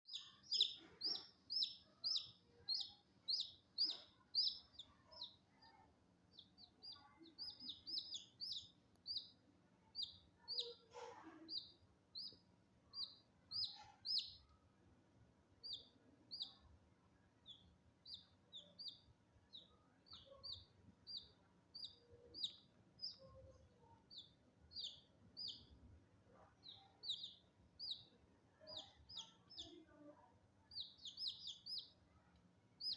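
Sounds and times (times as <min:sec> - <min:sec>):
small bird chirping: 0:00.0 - 0:14.6, 0:15.6 - 0:32.9.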